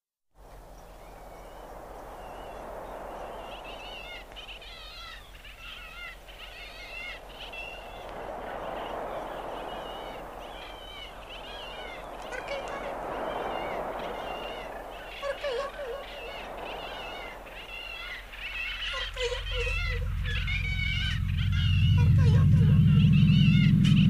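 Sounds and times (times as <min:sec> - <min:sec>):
rushing wash of noise: 0:00.4 - 0:24.0
warbling bird-like chirps: 0:00.8 - 0:24.0.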